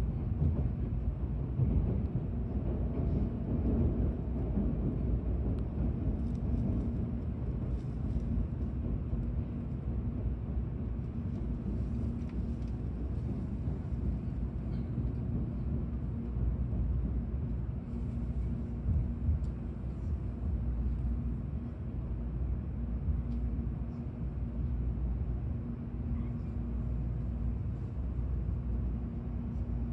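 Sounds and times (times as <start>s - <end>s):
train low rumble from inside: 0.0s - 29.9s.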